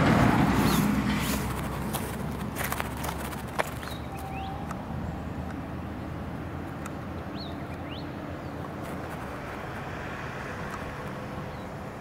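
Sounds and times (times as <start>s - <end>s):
road traffic hum: 0.0s - 12.0s
vehicle passing: 0.0s - 12.0s.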